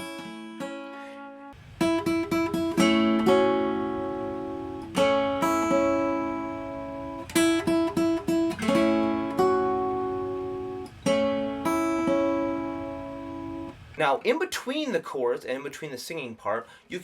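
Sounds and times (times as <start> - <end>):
fingerpicked acoustic guitar: 0.0 - 13.8.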